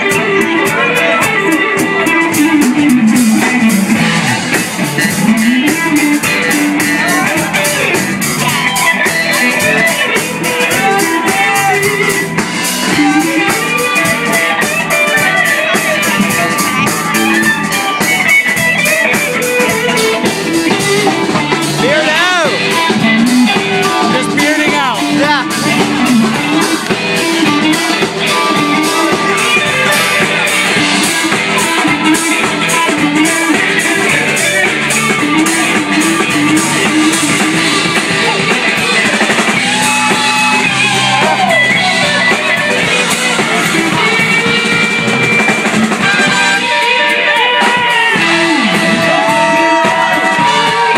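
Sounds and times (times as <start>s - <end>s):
electric guitar solo: 0.0s - 50.9s
live rock band: 0.0s - 50.9s.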